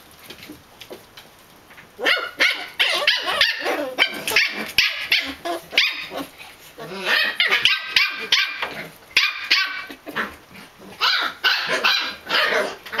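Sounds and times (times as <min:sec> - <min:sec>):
puppies barking and yipping: 0:02.0 - 0:13.0.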